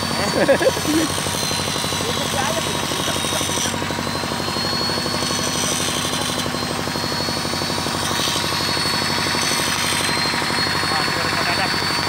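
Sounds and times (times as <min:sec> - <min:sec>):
excavator diesel engine running: 0:00.0 - 0:12.0
thin high whine: 0:00.0 - 0:12.0.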